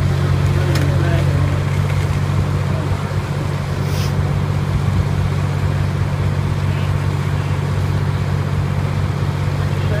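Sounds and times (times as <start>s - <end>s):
truck engine humming: 0.0s - 10.0s.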